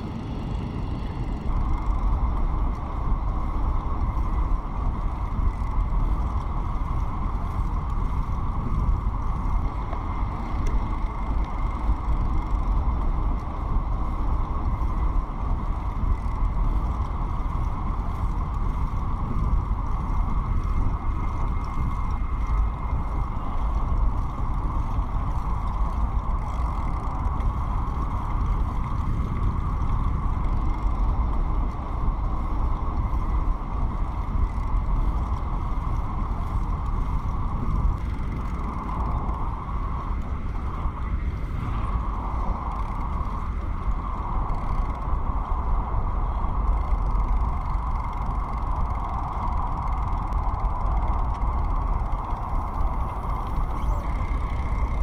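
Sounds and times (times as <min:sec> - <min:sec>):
bicycle tyres and drivetrain running: 0:00.0 - 0:55.0
faint steady whine: 0:00.0 - 0:55.0
wind rumbling on microphone: 0:00.0 - 0:55.0.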